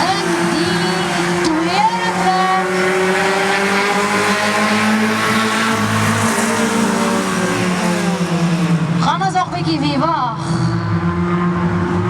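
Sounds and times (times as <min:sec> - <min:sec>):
race car engines at high revs: 0:00.0 - 0:12.0.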